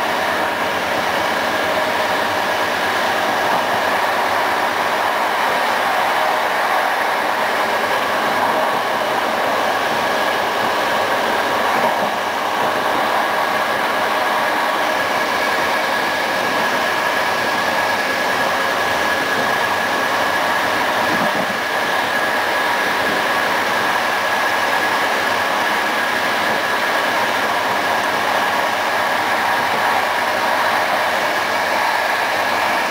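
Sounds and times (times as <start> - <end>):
locomotive high whine: 0.0 - 32.9
wheel-on-rail noise: 0.0 - 32.9.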